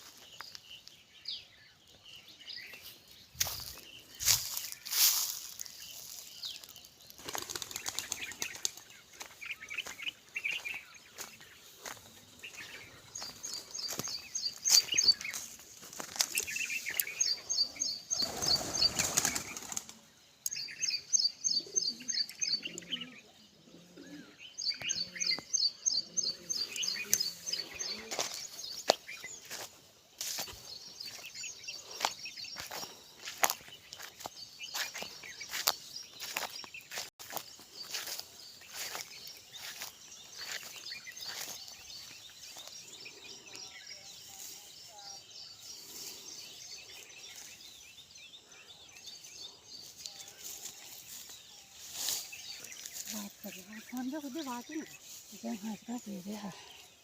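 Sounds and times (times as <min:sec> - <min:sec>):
birds chirping and ticking: 0:00.0 - 0:57.0.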